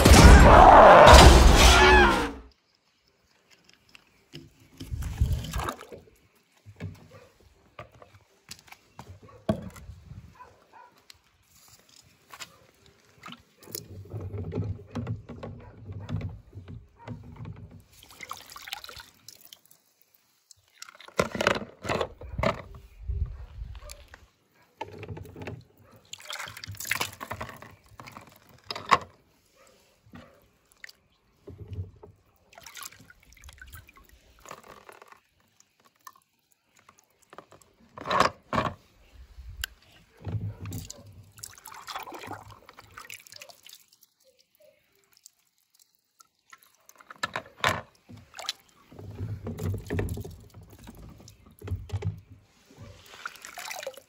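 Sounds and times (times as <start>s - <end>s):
water sloshing in a plastic tub: 3.3s - 54.0s.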